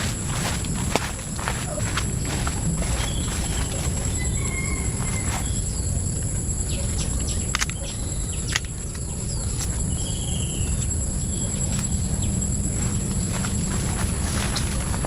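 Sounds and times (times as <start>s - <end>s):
bird chirps: 0.0s - 13.2s
insects buzzing: 0.0s - 15.0s
low rumble: 0.0s - 15.0s.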